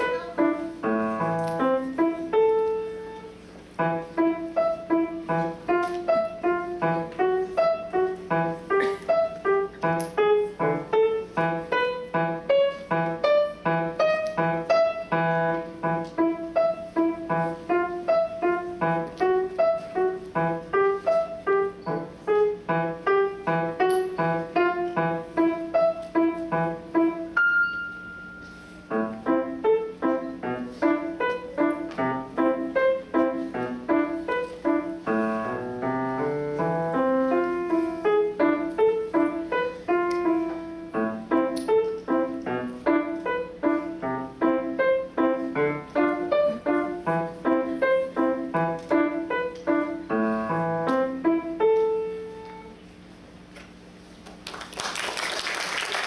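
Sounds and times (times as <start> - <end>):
solo grand piano: 0.0 - 56.0.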